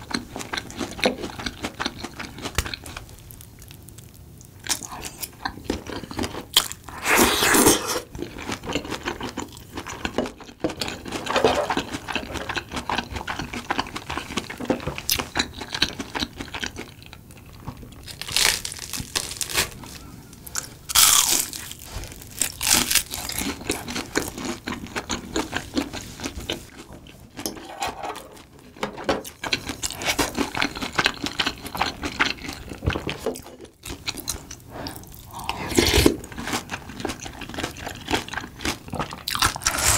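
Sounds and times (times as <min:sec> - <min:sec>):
chewing with crunching bites: 0:00.0 - 0:06.9, 0:08.1 - 0:27.6, 0:28.4 - 0:39.9.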